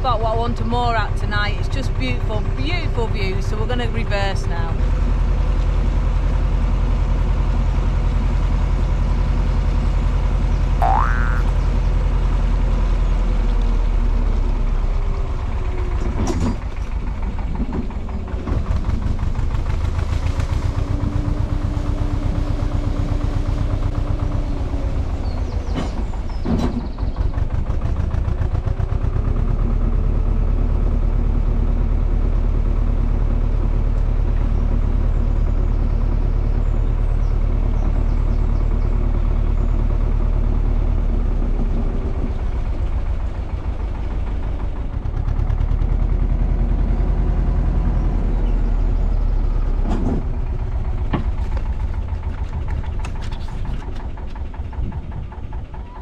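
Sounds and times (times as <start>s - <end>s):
diesel boat engine throbbing: 0.0s - 56.0s.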